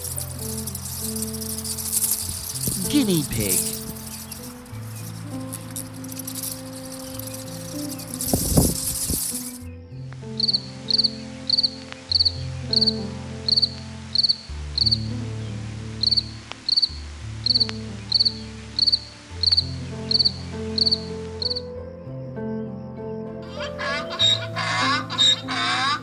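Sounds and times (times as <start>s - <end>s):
cricket chirping: 0.0s - 15.1s, 15.9s - 26.0s
soft background music: 0.0s - 26.0s.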